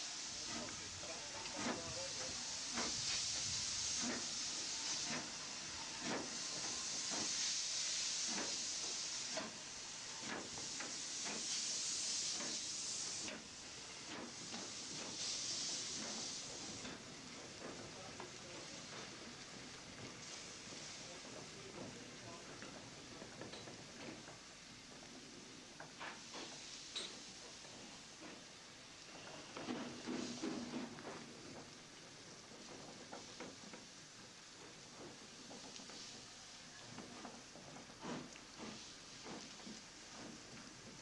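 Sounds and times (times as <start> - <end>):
steam hissing from locomotive: 0.0 - 41.0.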